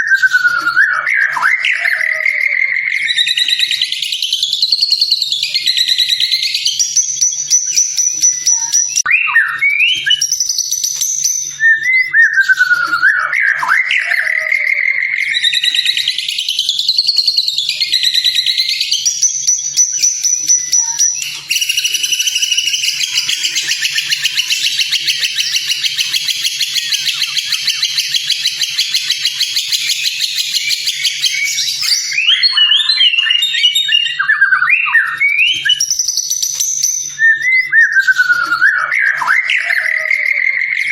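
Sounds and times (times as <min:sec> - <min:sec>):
fast rattling bird trill: 0:00.0 - 0:12.0, 0:13.4 - 0:40.9
bird singing whistled phrases: 0:00.0 - 0:40.9.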